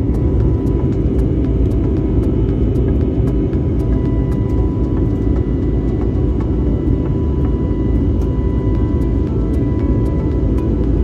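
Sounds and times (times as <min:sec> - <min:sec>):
faint steady high tones: 0:00.0 - 0:11.0
jet engine rumble in cabin: 0:00.0 - 0:11.0.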